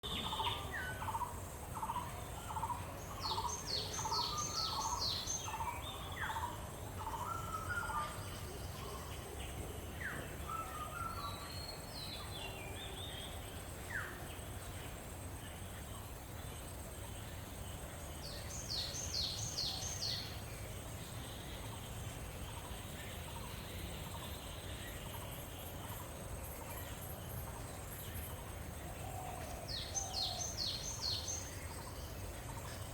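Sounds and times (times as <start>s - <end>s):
birds calling: 0.0s - 32.9s
high insect hum: 0.0s - 32.9s.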